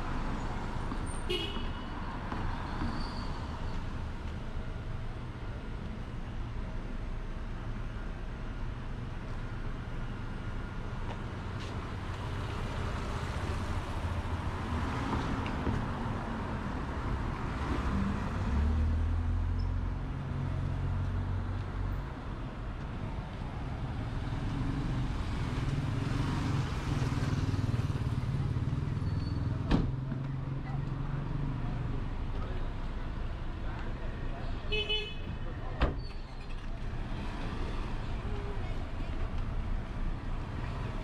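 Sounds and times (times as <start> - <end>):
car engines rumbling: 0.0 - 41.0.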